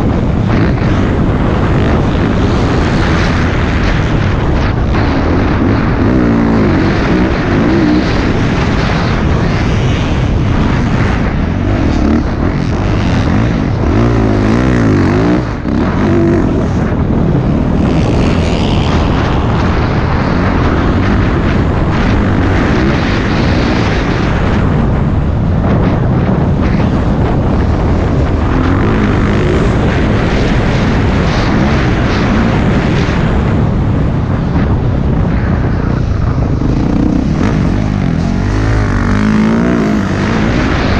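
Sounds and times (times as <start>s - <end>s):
dirt bike engine revving: 0.0s - 24.8s, 26.5s - 33.9s, 34.6s - 40.9s
steady rush of noise: 0.0s - 40.9s.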